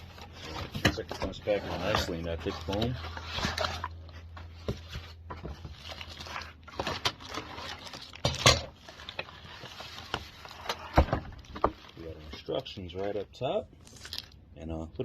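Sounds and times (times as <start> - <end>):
packaging scraping and knocking: 0.0 - 13.2
foam and plastic rustling: 0.0 - 14.4.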